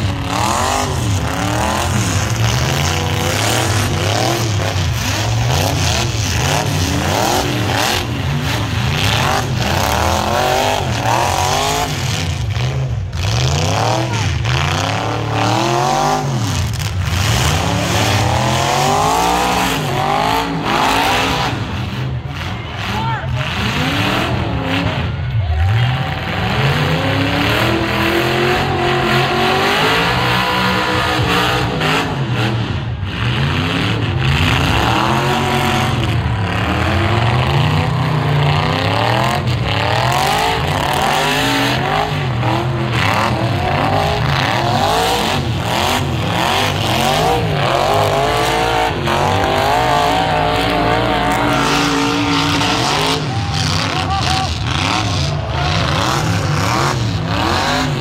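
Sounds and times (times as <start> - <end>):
pickup truck engines revving: 0.0 - 58.0.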